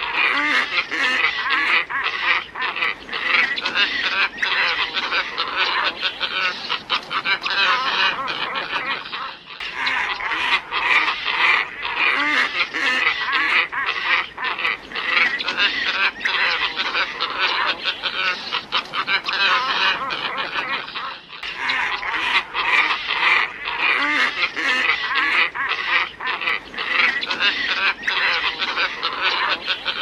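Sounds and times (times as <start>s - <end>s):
flock of birds calling hoarsely: 0.0s - 30.0s.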